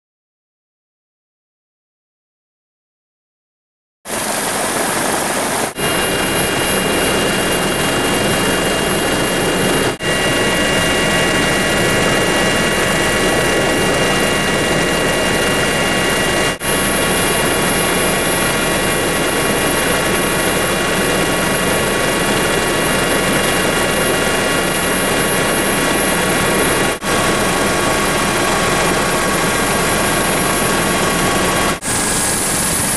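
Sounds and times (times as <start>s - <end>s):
helicopter turbine and rotor noise: 4.1s - 32.9s
high-pitched whines: 4.1s - 32.9s.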